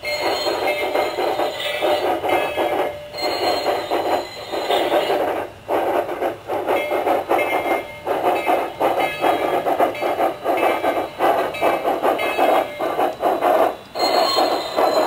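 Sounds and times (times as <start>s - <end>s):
steam locomotive exhaust chuffs: 0.0s - 15.0s.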